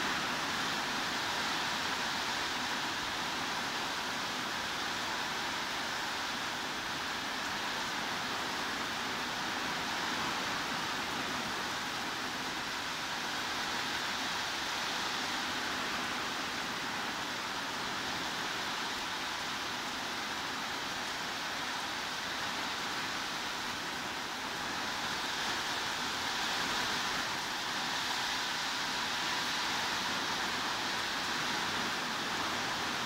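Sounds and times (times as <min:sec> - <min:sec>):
heavy rain hiss: 0:00.0 - 0:33.0.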